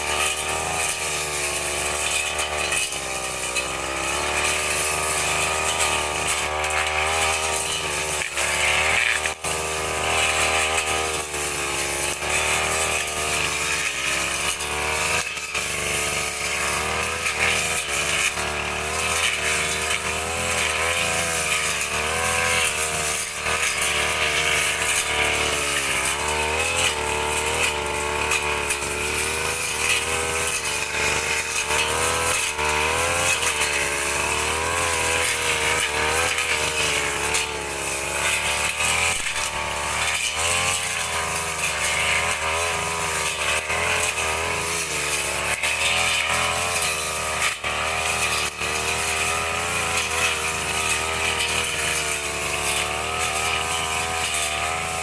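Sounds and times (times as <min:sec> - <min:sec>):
brush cutter engine running: 0:00.0 - 0:55.0.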